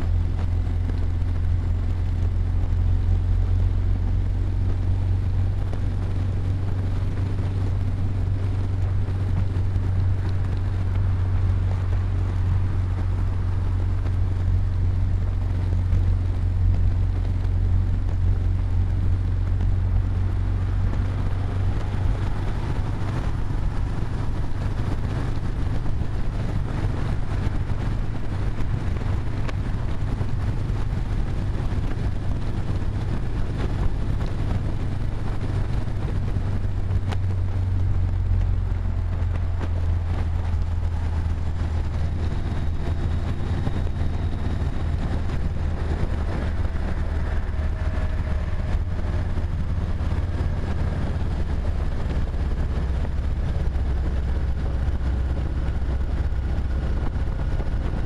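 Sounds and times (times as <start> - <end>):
car engine and road hum: 0.0 - 58.0
tyre and wind noise: 0.0 - 58.0.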